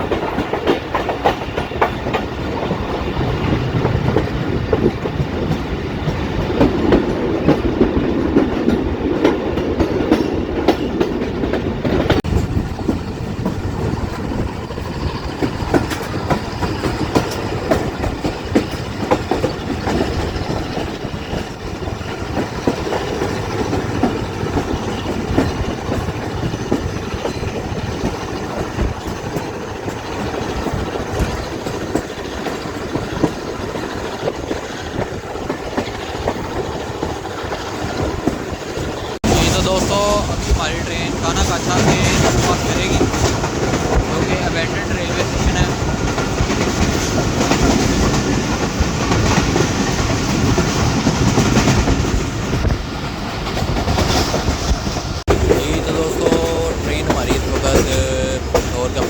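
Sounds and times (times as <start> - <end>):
train wheels rumbling on rails: 0.0 - 59.0
wheels clattering over rail joints: 0.0 - 59.0.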